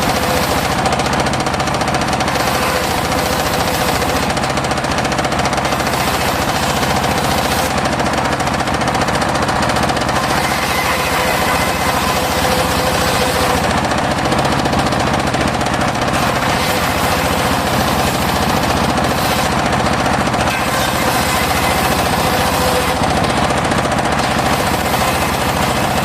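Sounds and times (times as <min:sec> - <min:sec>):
sawmill cutting wood: 0:00.0 - 0:26.0.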